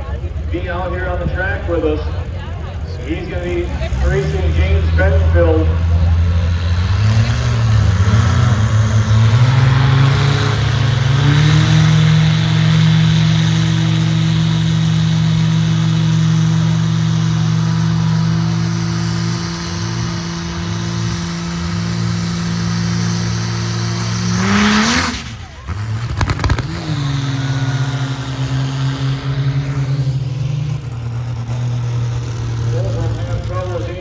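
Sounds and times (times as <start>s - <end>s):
diesel truck engine at full throttle: 0.0s - 34.0s
second engine wavering: 0.0s - 34.0s.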